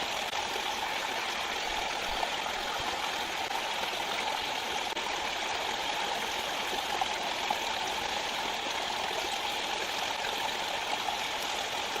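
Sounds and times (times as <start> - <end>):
stream flowing: 0.0 - 12.0.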